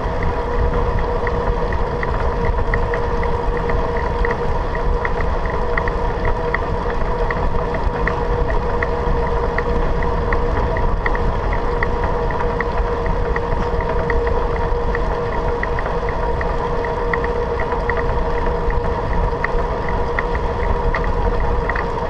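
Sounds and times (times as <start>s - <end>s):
bicycle tyre rumble: 0.0s - 22.0s
light repeating tick: 0.0s - 22.0s
steady hum: 0.0s - 22.0s
wind buffeting the microphone: 0.0s - 22.0s.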